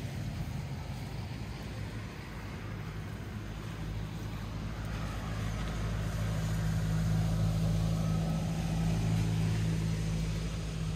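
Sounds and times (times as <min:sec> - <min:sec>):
low mechanical hum: 0:00.0 - 0:10.9.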